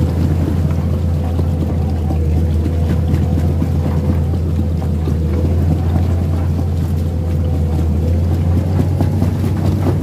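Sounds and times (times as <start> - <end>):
excavator diesel engine droning: 0.0 - 10.0.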